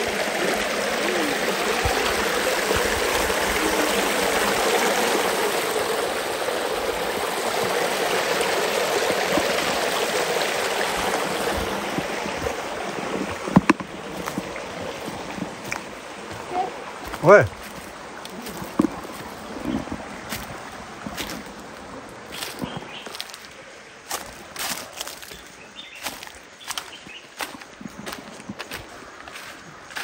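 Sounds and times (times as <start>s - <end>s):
stream trickling over rocks: 0.0s - 30.0s.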